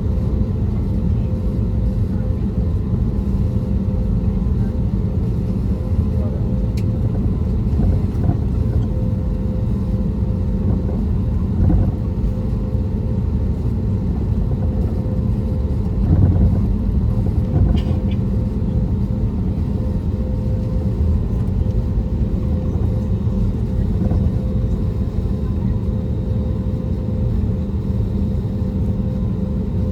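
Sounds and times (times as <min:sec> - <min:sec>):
airplane cabin rumble: 0:00.0 - 0:29.9.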